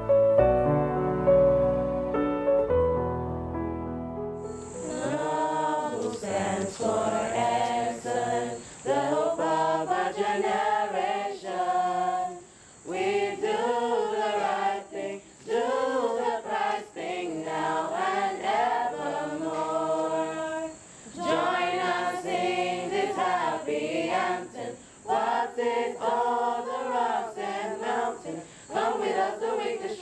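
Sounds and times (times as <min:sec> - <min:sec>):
choir singing unaccompanied: 0:04.5 - 0:30.0.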